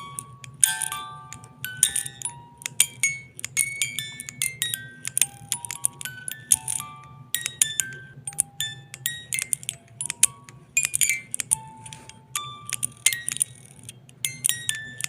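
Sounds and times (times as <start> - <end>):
chimes tinkling: 0.0 - 15.0
low steady hum: 0.0 - 15.0.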